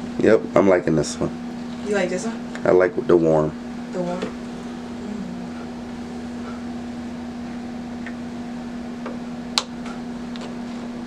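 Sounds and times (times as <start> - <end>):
low mechanical room hum: 0.0 - 11.0.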